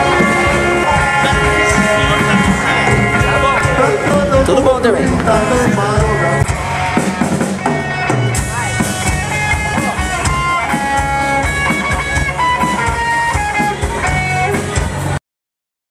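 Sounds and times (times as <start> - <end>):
bass: 0.0 - 15.2
drums: 0.0 - 15.2
guitar melody: 0.0 - 15.2.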